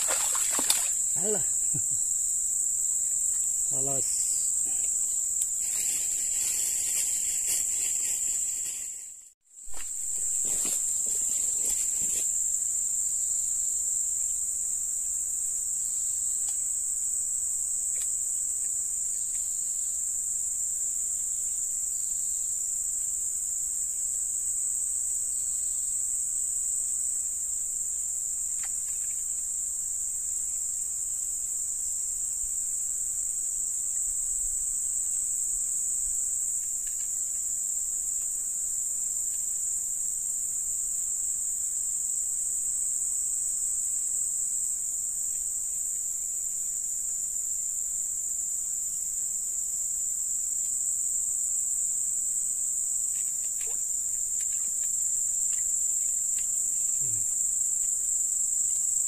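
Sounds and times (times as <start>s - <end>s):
crickets chirping drone: 0.0s - 9.0s, 9.6s - 59.0s.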